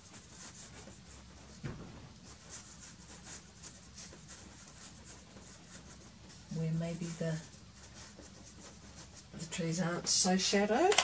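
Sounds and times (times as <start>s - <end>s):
pastel stick scraping on paper: 0.0s - 10.3s.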